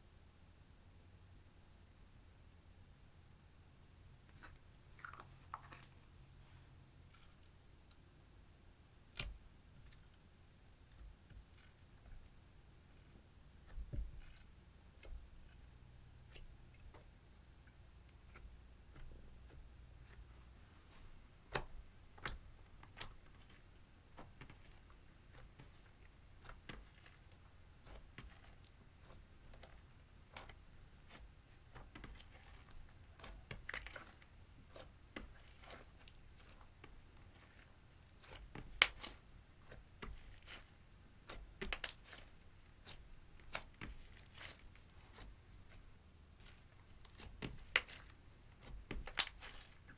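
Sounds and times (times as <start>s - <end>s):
slime kneaded by hand crackling: 9.1s - 49.9s.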